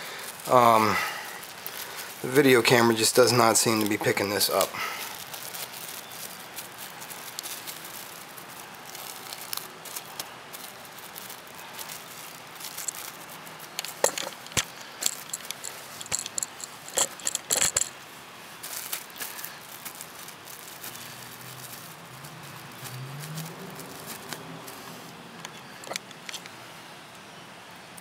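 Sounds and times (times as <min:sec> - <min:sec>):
handling clicks and rattles: 0:00.0 - 0:18.0, 0:18.6 - 0:26.6.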